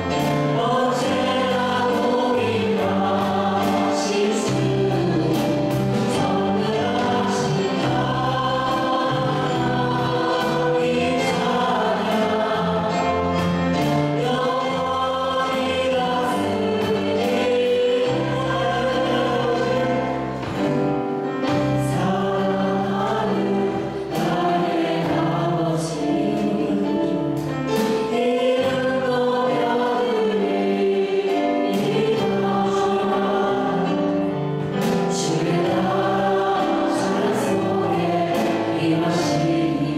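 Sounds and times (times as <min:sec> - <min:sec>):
group singing worship song: 0:00.0 - 0:39.9.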